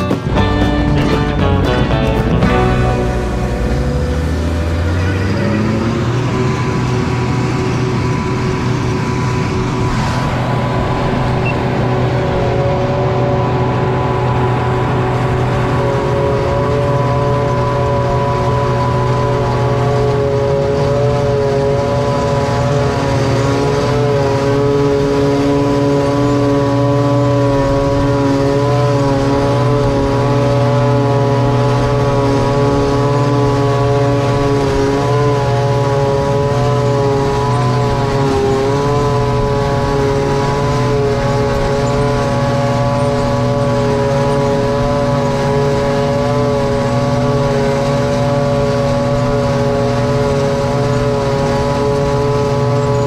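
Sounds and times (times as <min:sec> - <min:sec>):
tractor engine drone: 0:00.0 - 0:53.0
machine whine: 0:02.3 - 0:53.0.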